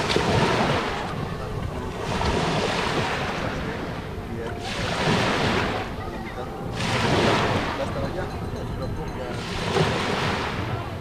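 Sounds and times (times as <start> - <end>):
sea water splashing at shoreline: 0.0 - 8.4, 9.3 - 11.0.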